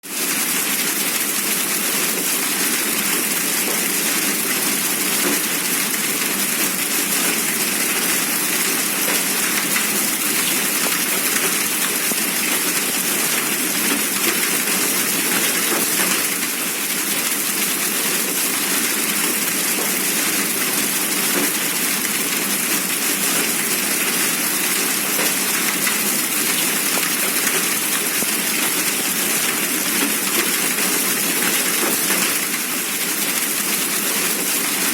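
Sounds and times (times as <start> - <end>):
hail and rain falling: 0.0 - 34.9.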